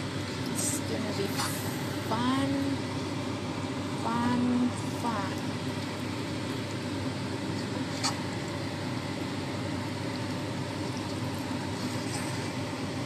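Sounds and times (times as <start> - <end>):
steady whooshing hum: 0.0 - 13.0.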